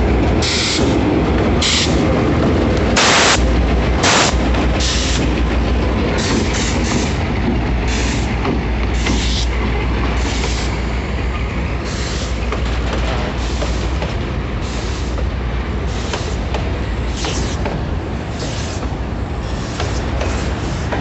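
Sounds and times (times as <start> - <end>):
diesel locomotive: 0.0 - 21.0
freight train rolling past: 0.0 - 21.0
wheels rumbling on rails: 0.0 - 21.0.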